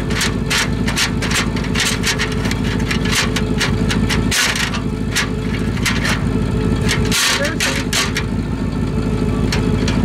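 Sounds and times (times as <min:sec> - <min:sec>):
cable clattering in tailpipe: 0:00.0 - 0:10.0
drain snake motor running: 0:00.0 - 0:10.0.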